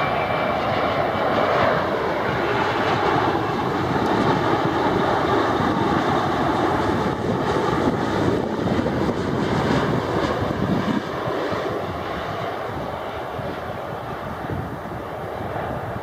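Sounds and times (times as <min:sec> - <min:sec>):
jet airliner rumbling overhead: 0:00.0 - 0:16.0.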